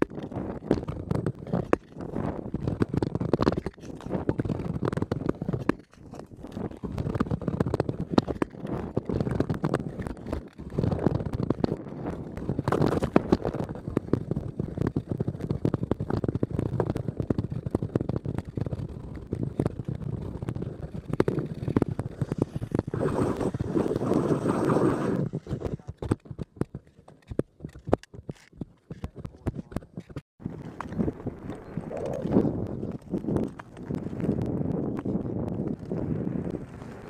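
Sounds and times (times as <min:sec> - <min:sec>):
wind buffeting microphone: 0:00.0 - 0:26.9, 0:27.5 - 0:37.0
ice skate blades scraping ice: 0:00.0 - 0:31.0.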